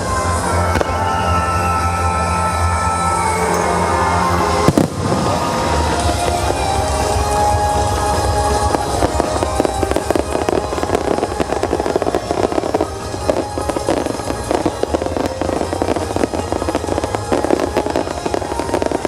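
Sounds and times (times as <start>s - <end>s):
fireworks bursting and crackling: 0.0s - 19.0s
music playing: 0.0s - 19.0s.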